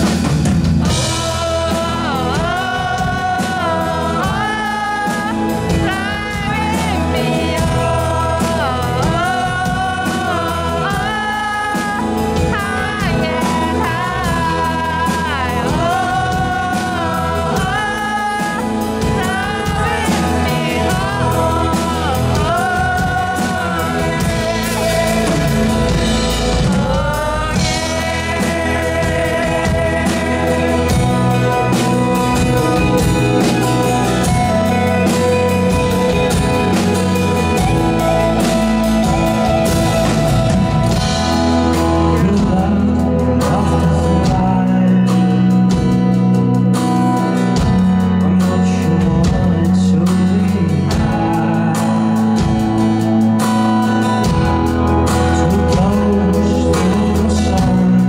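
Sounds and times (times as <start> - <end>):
drums: 0.0 - 58.0
man singing: 0.0 - 58.0
strummed acoustic guitar: 0.0 - 58.0.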